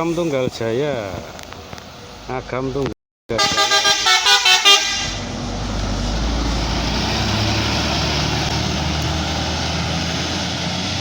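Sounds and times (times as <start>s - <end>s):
road noise: 0.0s - 11.0s
bus diesel engine drone: 1.6s - 11.0s.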